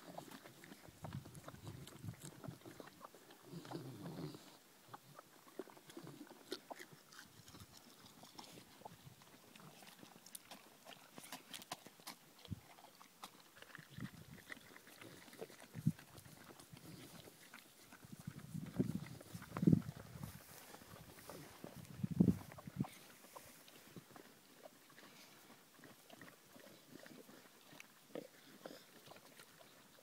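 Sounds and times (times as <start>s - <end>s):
dog chewing and crunching: 0.0s - 30.0s.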